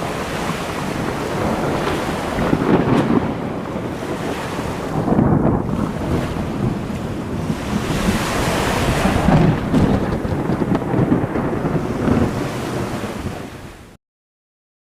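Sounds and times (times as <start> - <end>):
rain: 0.0 - 14.0
thunder rolling: 0.0 - 14.0
wind: 0.0 - 14.0.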